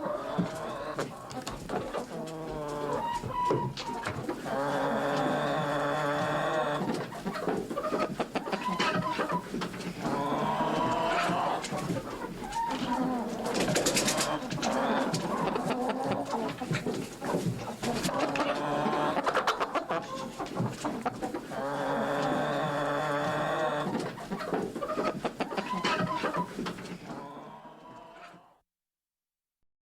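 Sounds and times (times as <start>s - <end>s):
chicken clucking: 0.0s - 28.6s.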